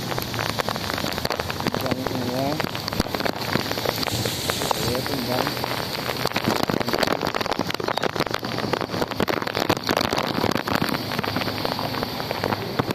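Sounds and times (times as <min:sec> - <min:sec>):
rain pattering: 0:00.0 - 0:12.9
strong wind: 0:00.0 - 0:12.9.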